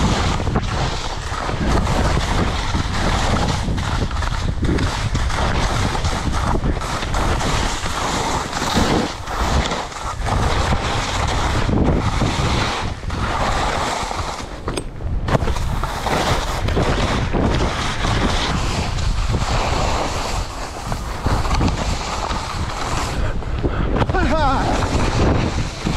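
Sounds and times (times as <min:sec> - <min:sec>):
skis scraping over snow: 0:00.0 - 0:25.9
wind on microphone: 0:00.0 - 0:25.9.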